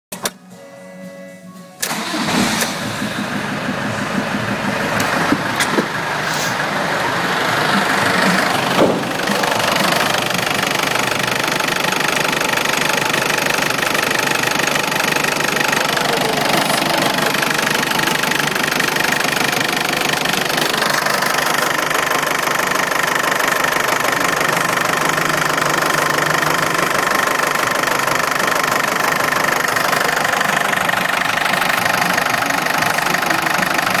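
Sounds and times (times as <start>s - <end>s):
diesel engine idling: 1.8s - 34.0s.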